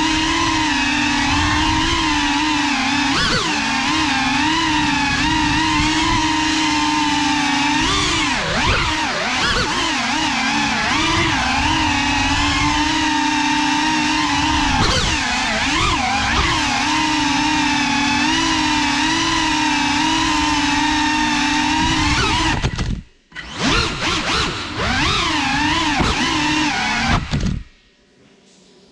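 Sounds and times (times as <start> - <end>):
drone motors and propellers whining: 0.0 - 27.8.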